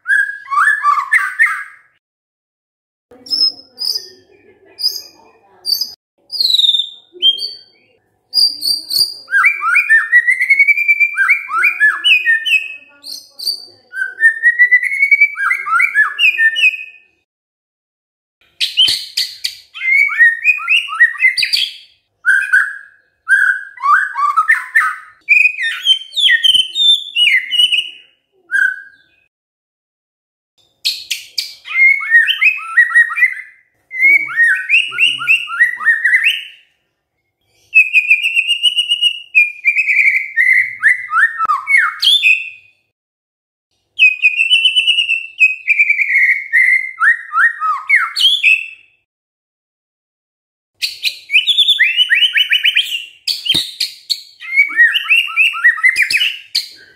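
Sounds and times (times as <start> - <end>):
bird singing whistled notes: 0.0 - 2.0, 4.9 - 7.8, 8.4 - 17.1, 18.6 - 29.3, 30.8 - 36.6, 37.7 - 42.7, 44.0 - 48.9, 50.8 - 56.9.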